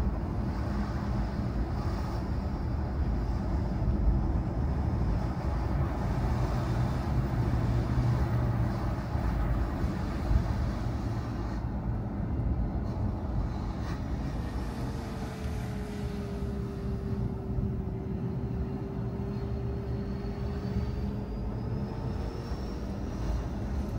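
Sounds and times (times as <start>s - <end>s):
car engine and tyre noise: 0.0s - 23.9s.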